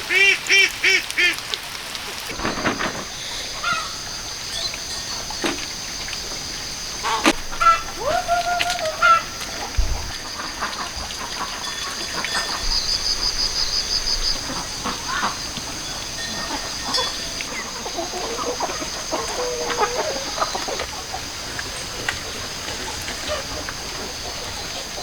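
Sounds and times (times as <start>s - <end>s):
chickens clucking: 2.3s - 25.0s.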